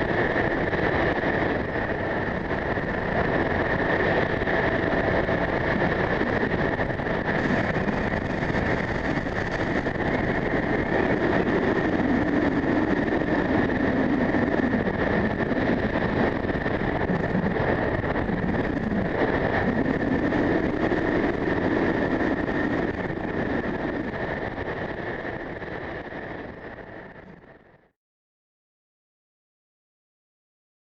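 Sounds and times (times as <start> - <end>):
strong wind buffeting microphone: 0.0 - 27.9.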